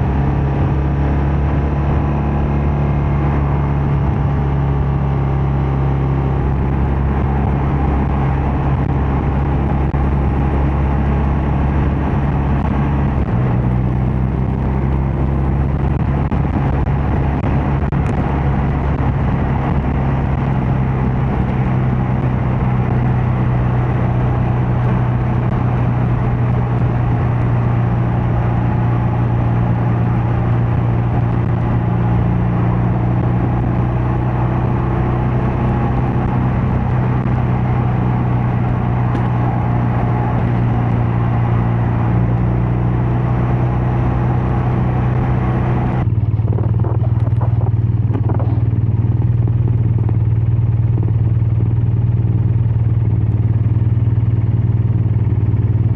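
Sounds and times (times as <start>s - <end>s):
motorcycle engine cruising: 0.0s - 55.9s
road and wind noise: 0.0s - 55.9s.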